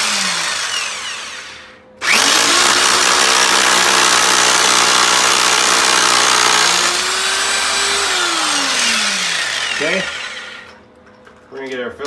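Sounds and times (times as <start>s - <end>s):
hammer drill drilling: 0.0s - 10.8s.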